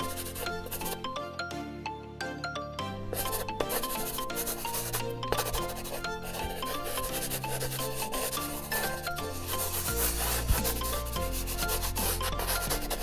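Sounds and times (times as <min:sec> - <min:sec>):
marker rubbing on paper: 0:00.0 - 0:01.0, 0:03.1 - 0:13.0
soft background music: 0:00.0 - 0:13.0.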